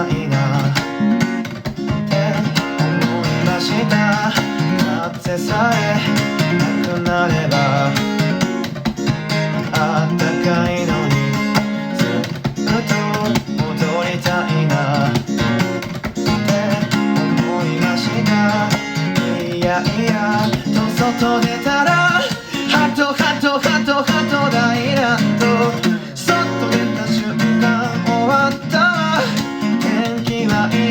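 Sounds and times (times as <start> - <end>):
person singing: 0.0 - 8.8, 9.4 - 30.9
acoustic guitar strumming: 0.0 - 30.9.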